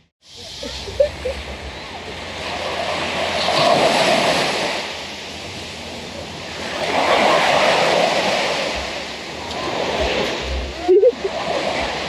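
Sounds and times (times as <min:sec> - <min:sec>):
ocean surf breaking: 0:00.2 - 0:12.0.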